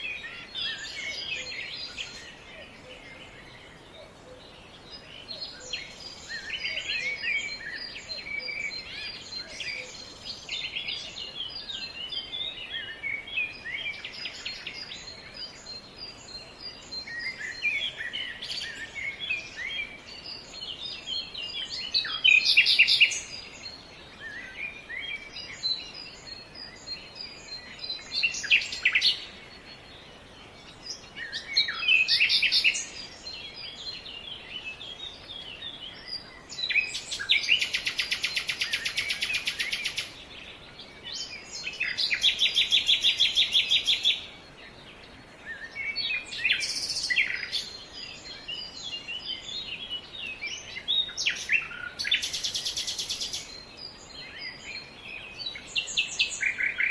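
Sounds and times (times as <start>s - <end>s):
background hiss: 0.0s - 56.9s
birds chirping: 0.0s - 56.9s.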